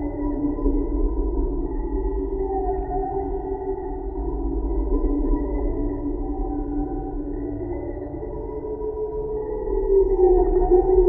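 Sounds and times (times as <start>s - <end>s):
spooky ambient drone music: 0.0s - 11.0s.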